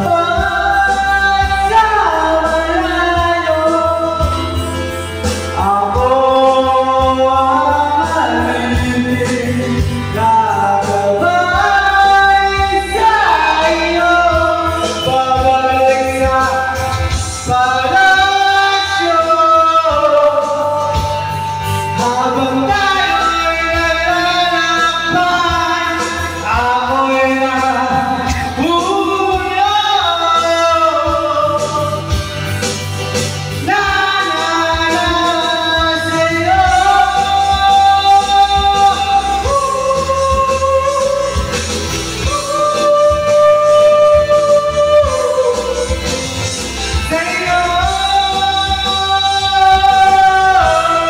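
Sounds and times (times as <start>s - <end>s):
backing music: 0.0s - 51.0s
man singing into microphone: 0.0s - 51.0s.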